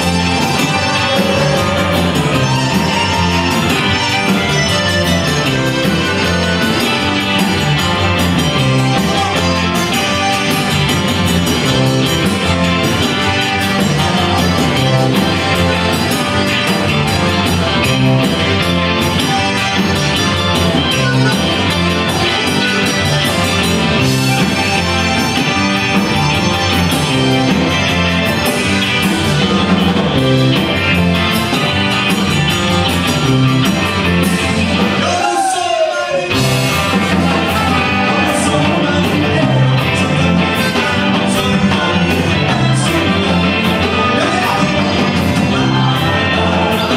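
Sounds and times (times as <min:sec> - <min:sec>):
accordion: 0:00.0 - 0:35.1, 0:36.3 - 0:46.9
repeating bass line: 0:00.0 - 0:35.2, 0:36.3 - 0:46.9
rock band playing: 0:00.0 - 0:46.9.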